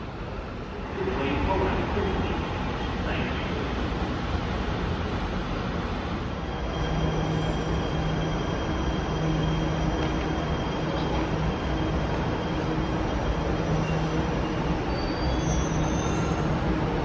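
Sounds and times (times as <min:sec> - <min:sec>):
electric train humming: 0:00.0 - 0:17.0
rail station noise: 0:00.0 - 0:17.0.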